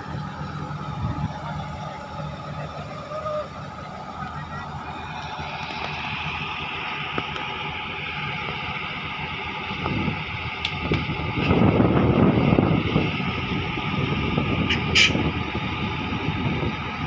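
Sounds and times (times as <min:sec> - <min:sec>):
bulldozer diesel engine revving: 0:00.0 - 0:17.0.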